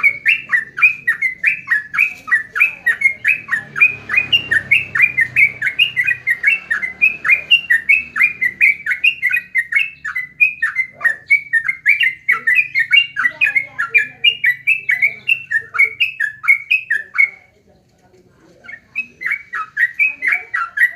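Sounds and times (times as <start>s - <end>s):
songbird singing chattering song: 0.0s - 20.9s.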